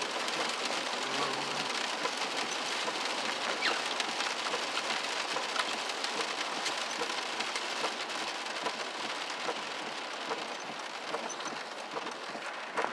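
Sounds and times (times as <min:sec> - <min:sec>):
raindrops ticking: 0:00.0 - 0:12.9
steady rain falling: 0:00.0 - 0:12.9.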